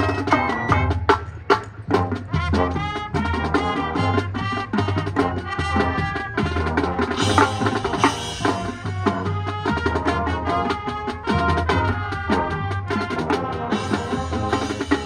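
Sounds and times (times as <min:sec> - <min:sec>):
marching band playing: 0:00.0 - 0:15.0
snare and bass drums: 0:00.0 - 0:15.0.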